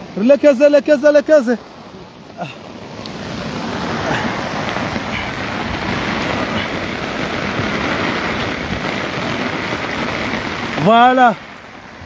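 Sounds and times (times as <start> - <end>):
floodwater running across road: 0.0 - 12.0
heavy rain: 0.0 - 12.0.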